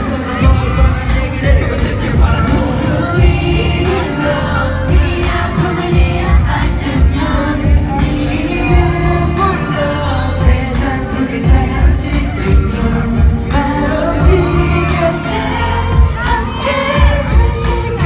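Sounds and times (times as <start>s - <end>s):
amplified pop backing track: 0.0s - 18.0s
men singing: 0.0s - 18.0s.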